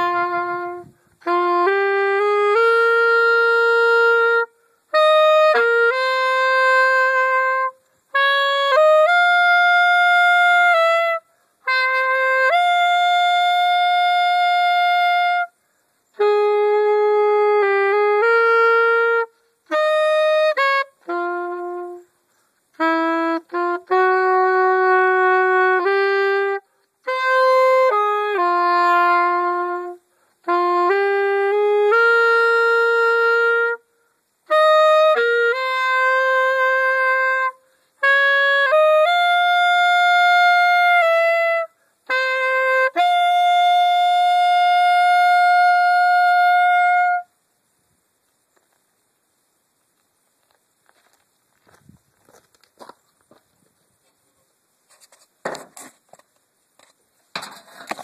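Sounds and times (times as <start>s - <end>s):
solo saxophone melody: 0.0s - 47.7s.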